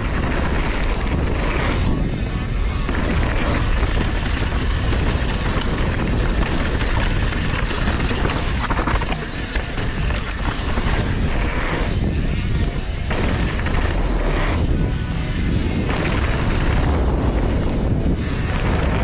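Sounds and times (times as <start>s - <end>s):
bike tyres on dirt: 0.0s - 19.0s
wind on microphone: 0.0s - 19.0s.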